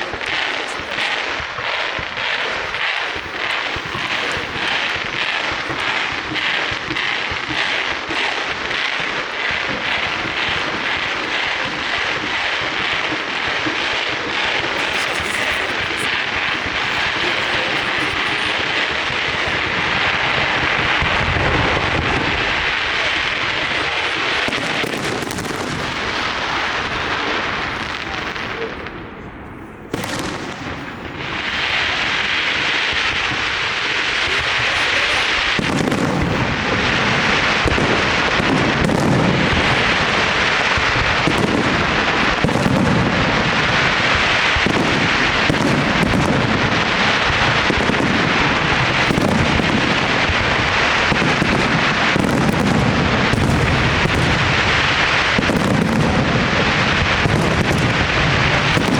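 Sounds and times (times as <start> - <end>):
fireworks bursting and crackling: 0.0 - 58.9
heavy fireworks booms: 0.0 - 58.9.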